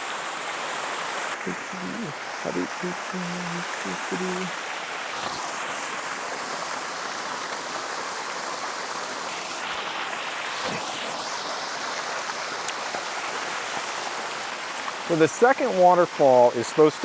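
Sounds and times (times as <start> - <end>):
waterfall splashing: 0.0 - 17.0.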